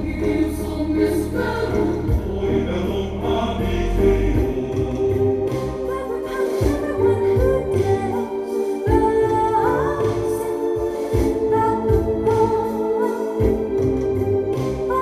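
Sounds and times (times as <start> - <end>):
loud music with choir-like voices: 0.0 - 15.0.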